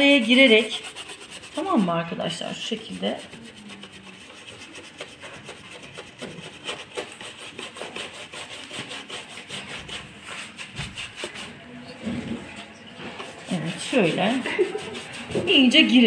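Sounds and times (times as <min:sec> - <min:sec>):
brush bristles scrubbing panel: 0:00.0 - 0:16.0.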